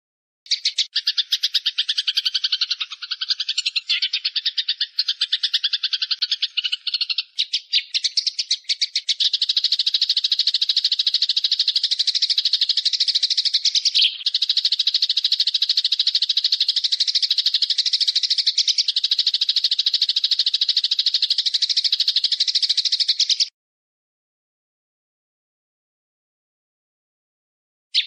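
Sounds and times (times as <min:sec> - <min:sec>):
songbird chattering trill: 0:00.5 - 0:23.5.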